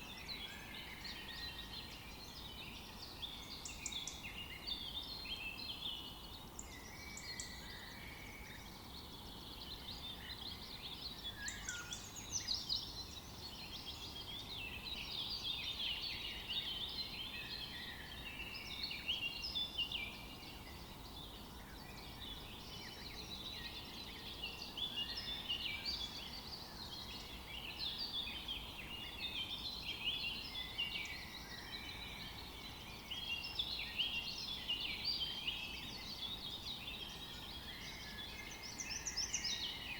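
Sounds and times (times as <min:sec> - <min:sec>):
faint steady hiss: 0:00.0 - 0:39.9
small birds chirping: 0:00.0 - 0:39.9.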